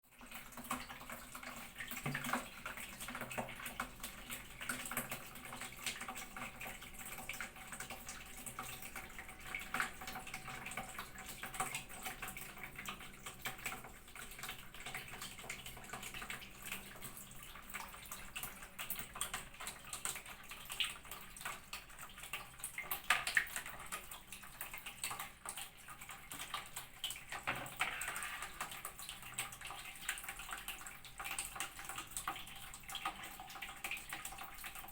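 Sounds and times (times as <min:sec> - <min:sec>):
water splashing and pouring: 0:00.1 - 0:34.9.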